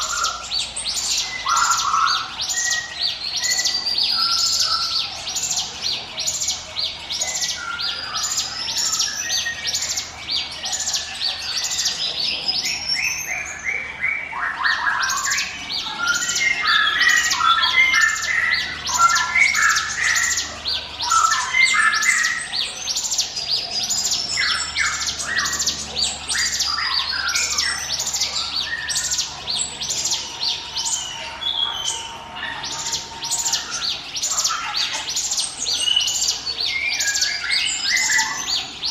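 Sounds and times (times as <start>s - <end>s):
lower bird twittering: 0.0s - 38.9s.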